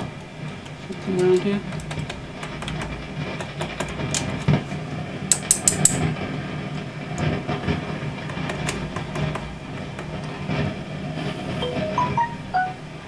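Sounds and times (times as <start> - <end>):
clicks and crackles: 0.0 - 10.8
amp roaring crackly noise: 0.0 - 13.0.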